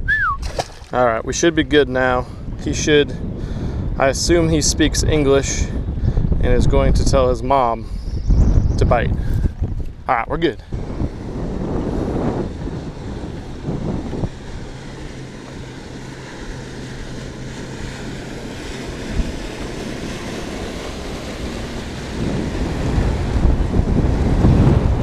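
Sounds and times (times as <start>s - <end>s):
boat wake rushing: 0.0s - 25.0s
outboard engine droning: 0.0s - 25.0s
wind buffeting microphone: 0.0s - 25.0s.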